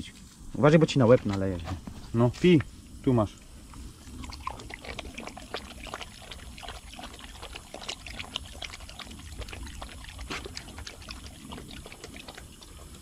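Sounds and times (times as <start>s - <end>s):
water trickling and splashing: 1.0s - 13.0s.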